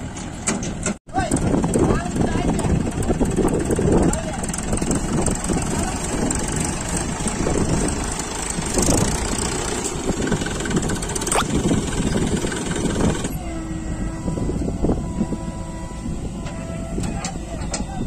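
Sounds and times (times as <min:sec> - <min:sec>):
diesel engines running hard: 0:00.0 - 0:18.0.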